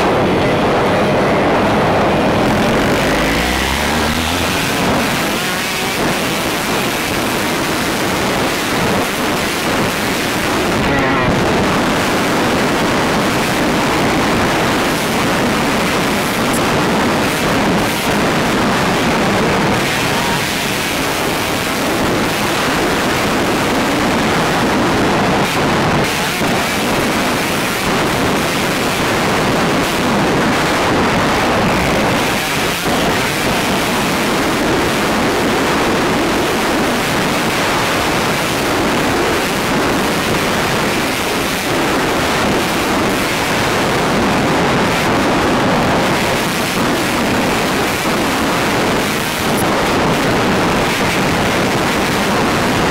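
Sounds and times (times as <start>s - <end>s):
dirt bike engine running: 0.0s - 52.9s
wind buffeting microphone: 0.0s - 52.9s.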